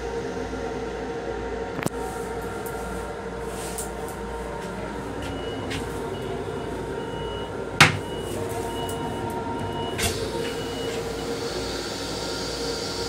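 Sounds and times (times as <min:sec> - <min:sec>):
railcar running noise: 0:00.0 - 0:13.0.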